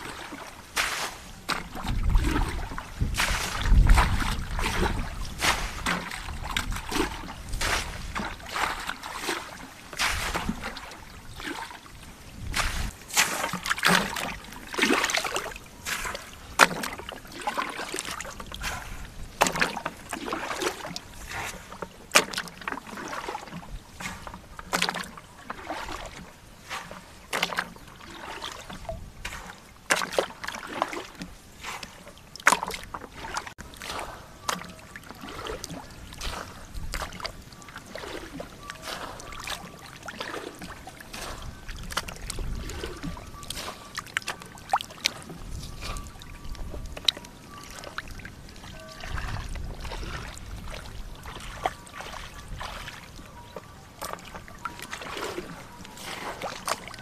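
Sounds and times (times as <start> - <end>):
sharp splash: 0.0 - 46.3, 54.0 - 57.0
water splashing and sloshing: 0.0 - 57.0.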